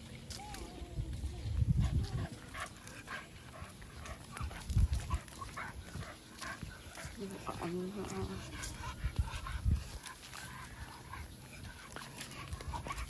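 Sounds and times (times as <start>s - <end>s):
footsteps crunching on dry leaves: 0.0s - 13.0s.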